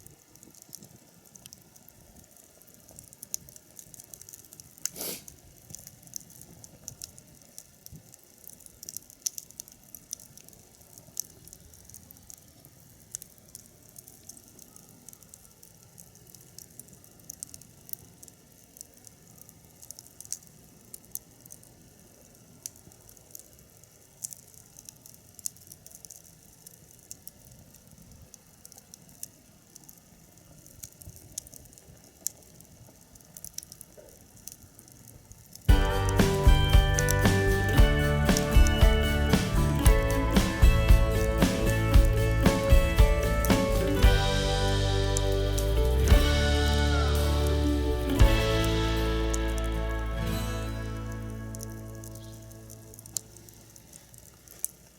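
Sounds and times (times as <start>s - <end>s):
faint hiss: 0.0s - 54.9s
wood fire crackling and popping: 0.0s - 54.9s.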